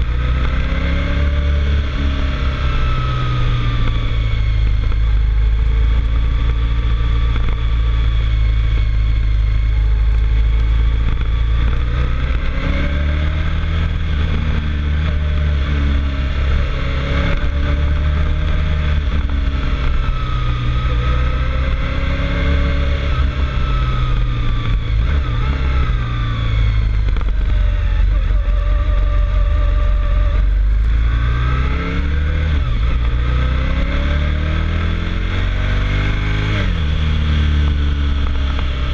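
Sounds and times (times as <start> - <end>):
heavy low rumble: 0.0 - 38.9
vehicle engine revving: 0.0 - 38.9.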